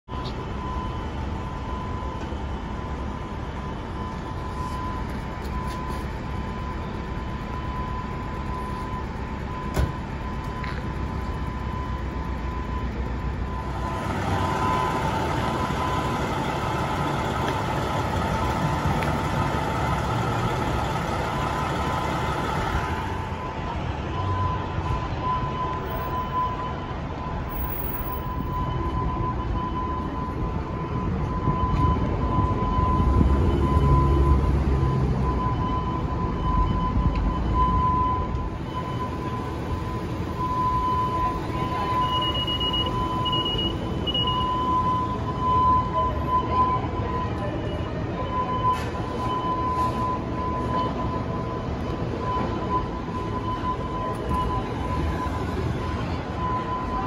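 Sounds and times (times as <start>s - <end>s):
city street traffic: 0.0s - 57.0s
fire alarm high-pitched tone: 0.1s - 57.0s
low engine rumble: 0.1s - 57.0s.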